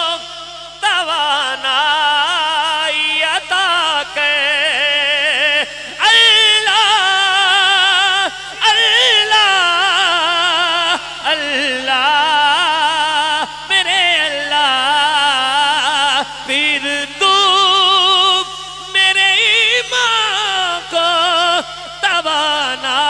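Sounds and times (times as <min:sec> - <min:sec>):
man singing into microphone: 0:00.0 - 0:23.0.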